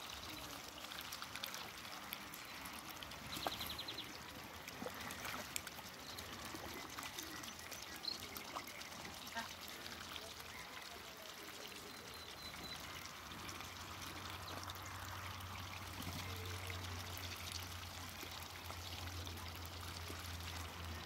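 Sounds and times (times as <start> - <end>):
ducks splashing in water: 0.0 - 21.0.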